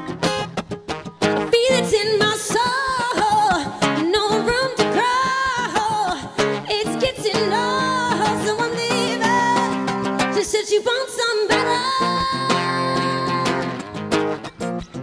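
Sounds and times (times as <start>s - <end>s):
acoustic guitar strumming: 0.0s - 10.6s, 11.5s - 15.0s.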